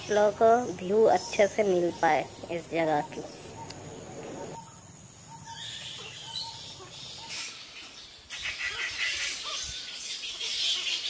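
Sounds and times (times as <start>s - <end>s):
fruit bats screeching and chattering: 0.0s - 4.6s, 5.3s - 11.0s.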